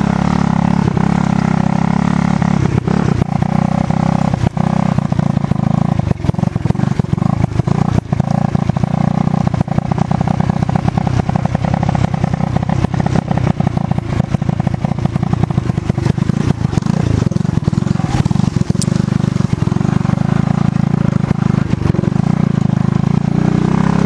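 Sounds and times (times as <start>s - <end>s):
dirt bike engine under throttle: 0.0s - 24.0s.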